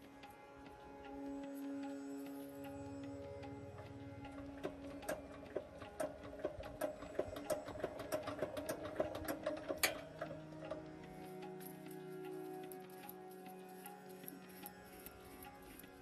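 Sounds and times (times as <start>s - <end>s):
faint steady tones: 0.0s - 16.0s.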